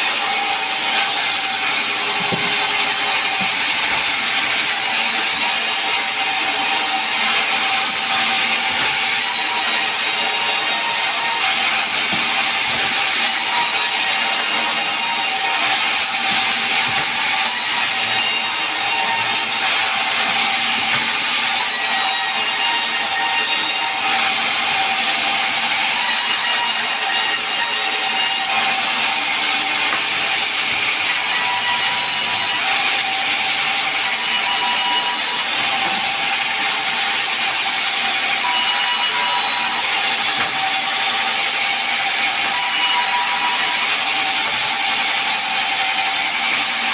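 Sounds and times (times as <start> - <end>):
sawmill saw running: 0.0 - 42.6.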